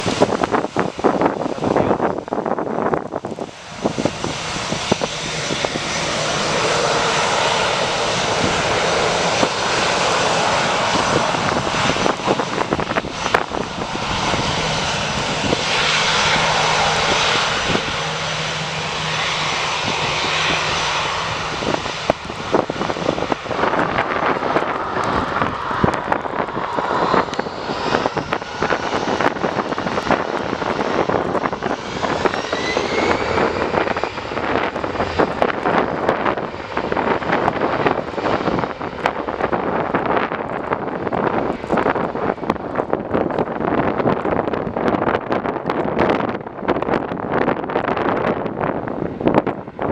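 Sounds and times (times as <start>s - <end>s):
jet engines running: 0.0s - 49.9s
wind buffeting microphone: 0.0s - 49.9s.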